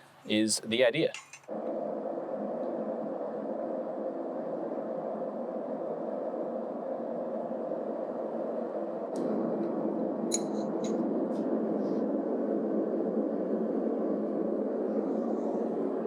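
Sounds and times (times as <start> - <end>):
portable generator droning: 1.5 - 16.0.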